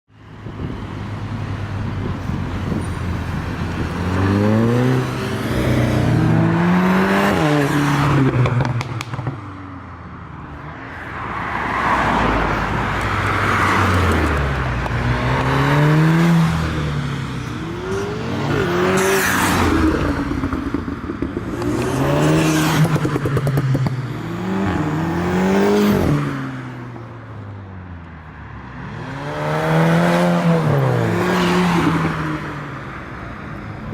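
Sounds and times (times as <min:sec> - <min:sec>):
cars accelerating and revving past: 0:00.5 - 0:33.9.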